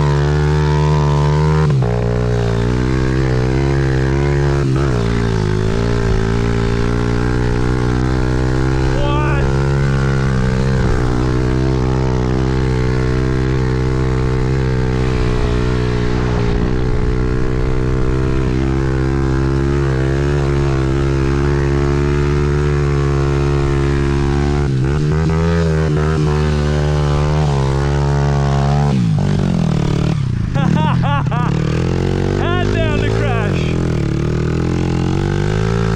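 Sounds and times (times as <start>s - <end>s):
small motorbike engine running: 0.0s - 35.9s.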